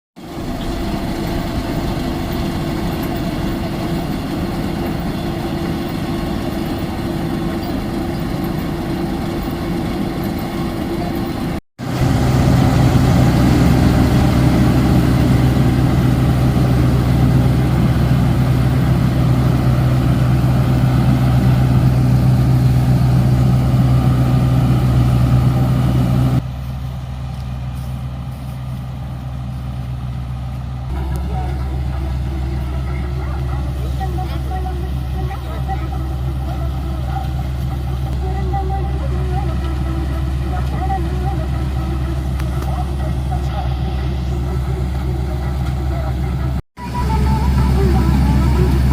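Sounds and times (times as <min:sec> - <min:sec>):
harvester engine running: 0:00.2 - 0:48.9.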